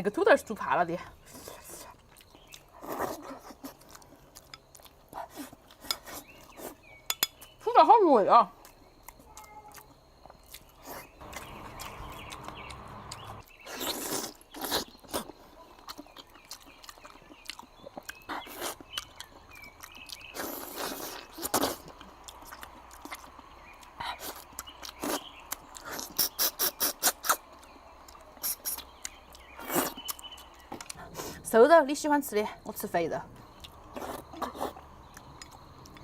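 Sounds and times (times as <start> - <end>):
chewing and lip-smacking: 1.3 - 7.5, 8.6 - 31.4, 33.4 - 36.0.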